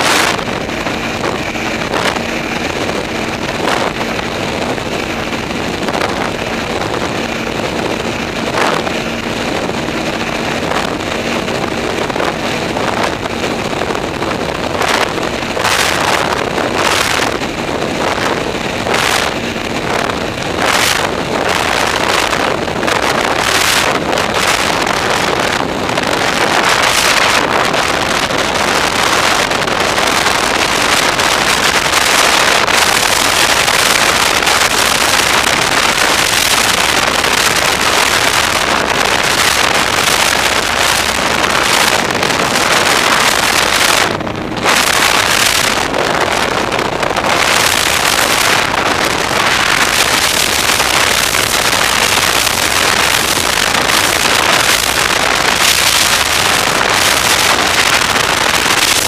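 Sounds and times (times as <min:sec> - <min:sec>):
snowmobile engine running: 0:00.0 - 0:59.0
wind buffeting microphone: 0:00.0 - 0:59.0.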